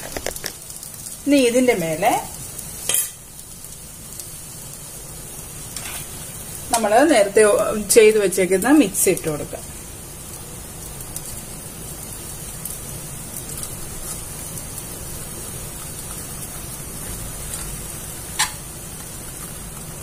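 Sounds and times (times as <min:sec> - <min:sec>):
pancake sizzling in oil: 0:00.0 - 0:20.0.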